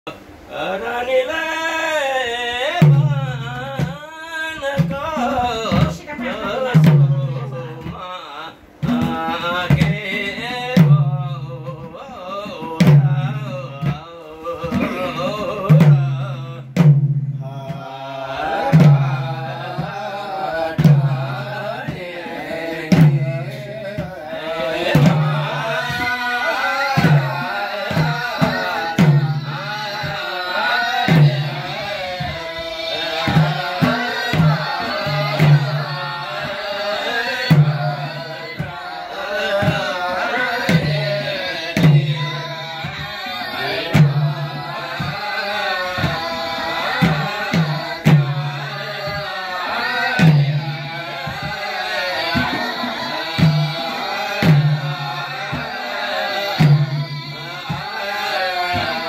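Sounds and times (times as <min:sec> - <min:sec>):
voices singing together: 0:00.0 - 0:59.0.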